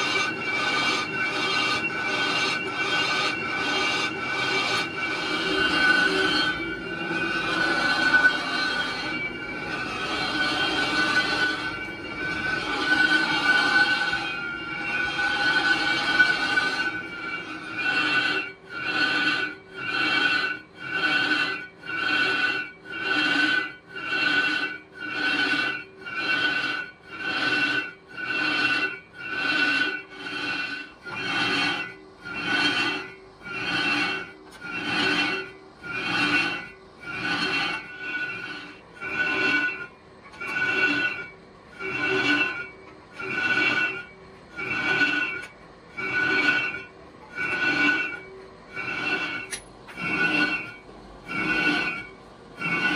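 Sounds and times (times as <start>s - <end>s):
brake drum squealing on a lathe: 0.0s - 52.9s.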